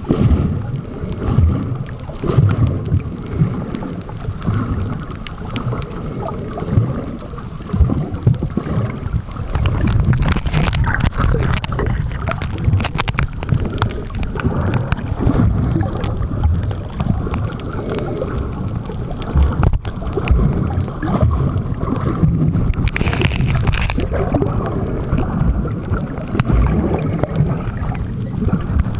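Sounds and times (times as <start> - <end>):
boat rumble underwater: 0.0 - 28.9
water gurgling: 0.0 - 28.9.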